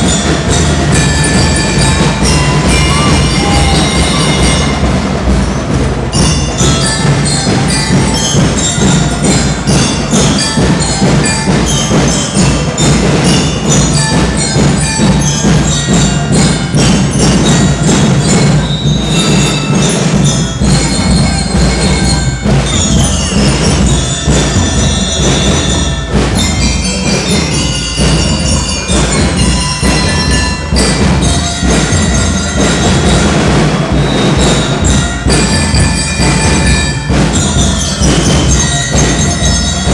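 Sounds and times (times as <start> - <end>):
bell-like mallet percussion: 0.0 - 39.9
drums striking: 0.0 - 39.9.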